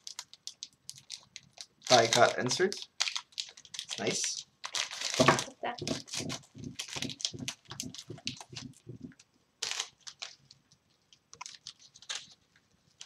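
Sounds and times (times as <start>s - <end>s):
card pack wrappers crinkling: 0.0s - 10.5s, 11.3s - 12.4s.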